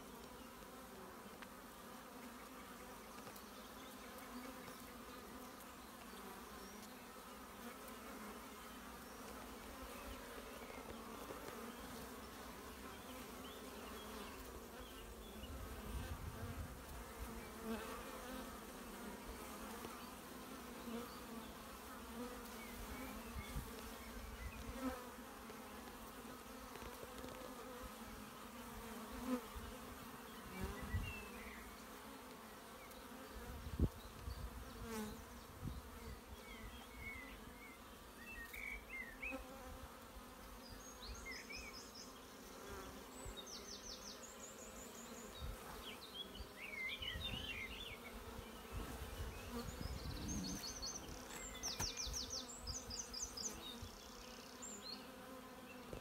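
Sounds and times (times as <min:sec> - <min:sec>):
bees humming: 0:00.0 - 0:56.0
single bee flying past: 0:00.0 - 0:56.0.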